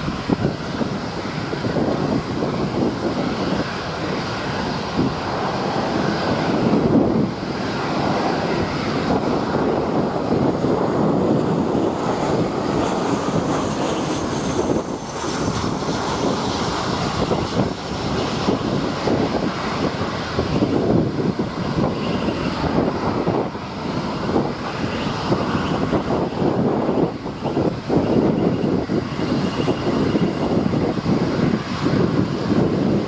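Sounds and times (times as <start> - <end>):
faint high engine whine: 0.0 - 33.0
jet engines rumbling: 0.0 - 33.0.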